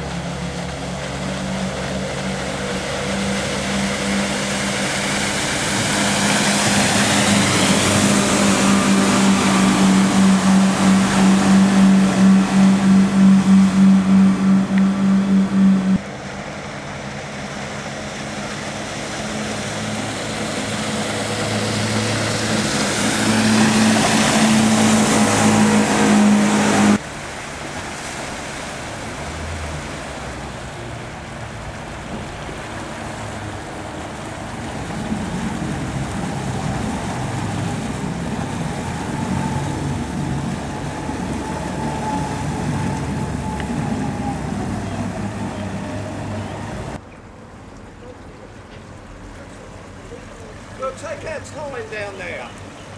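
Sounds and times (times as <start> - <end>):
outboard motors running: 0.0 - 52.9
water spray and wash: 0.0 - 52.9.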